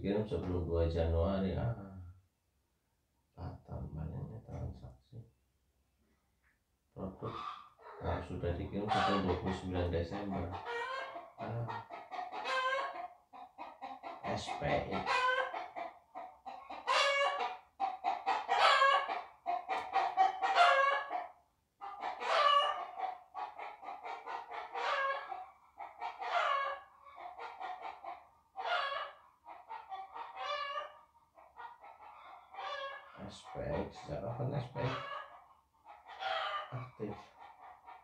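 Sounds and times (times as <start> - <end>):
chickens clucking and cackling: 7.0 - 38.0.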